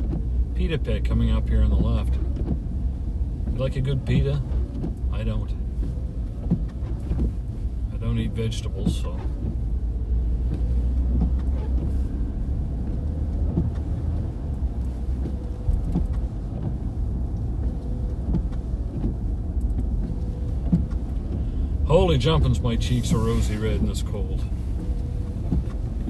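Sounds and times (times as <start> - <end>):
car road noise rumble: 0.0 - 26.0.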